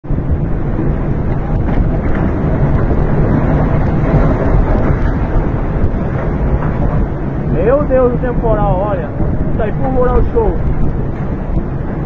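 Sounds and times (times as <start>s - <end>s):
heavy rain: 0.0s - 12.0s
storm wind buffeting microphone: 0.0s - 12.0s.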